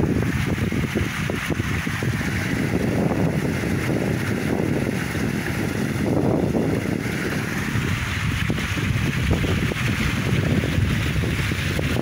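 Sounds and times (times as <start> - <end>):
small waterfall splashing: 0.0 - 12.0
wind buffeting microphone: 0.0 - 12.0.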